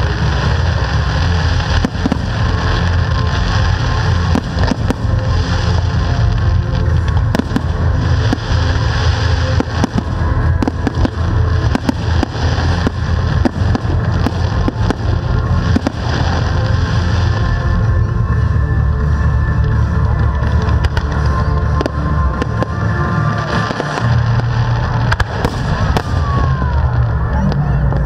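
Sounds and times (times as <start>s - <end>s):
deep rumble: 0.0s - 28.0s
firework bangs and crackles: 0.0s - 28.0s
music playing: 0.0s - 28.0s.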